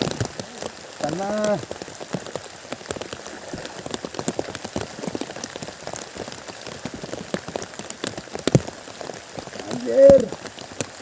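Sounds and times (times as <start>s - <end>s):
rain falling: 0.0s - 11.0s
raindrops ticking on a surface: 0.0s - 11.0s.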